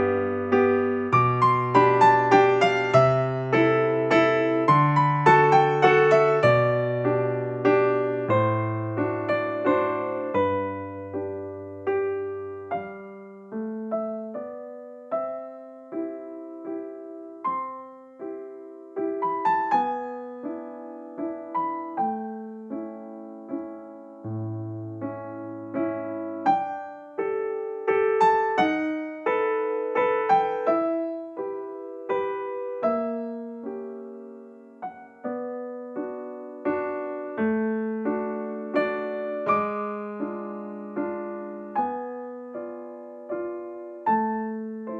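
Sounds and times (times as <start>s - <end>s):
slow piano music: 0.0s - 44.9s.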